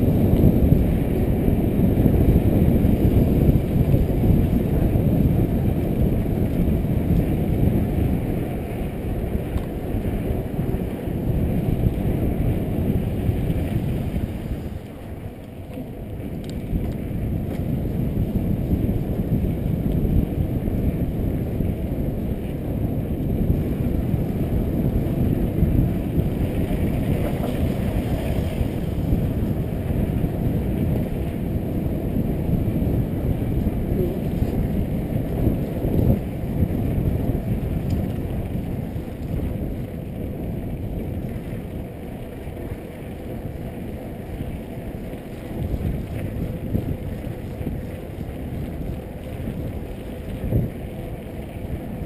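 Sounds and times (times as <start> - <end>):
tyres rumbling on street: 0.0 - 52.0
wind rushing over microphone: 0.0 - 52.0.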